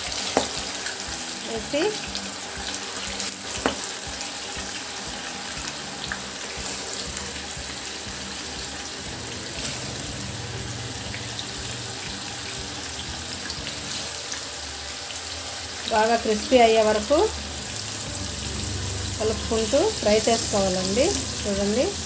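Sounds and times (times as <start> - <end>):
lentils sizzling in hot oil: 0.0 - 22.0.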